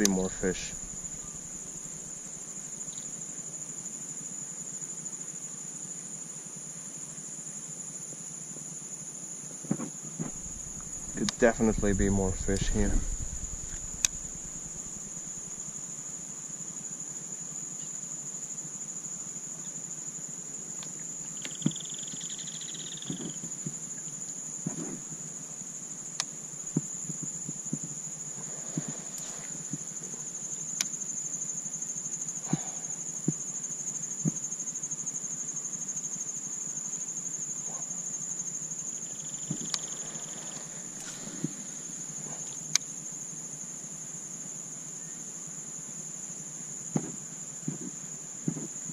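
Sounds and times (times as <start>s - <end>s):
high-pitched insect chorus: 0.0s - 48.9s.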